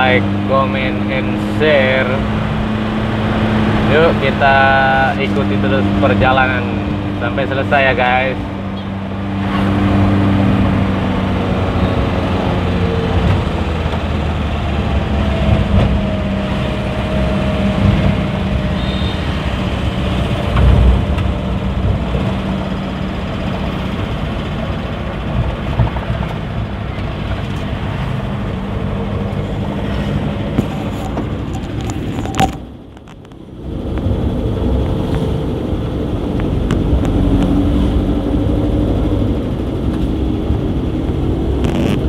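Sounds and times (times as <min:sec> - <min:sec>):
car engine hum from inside: 0:00.0 - 0:42.0
rumbling road noise: 0:00.0 - 0:42.0.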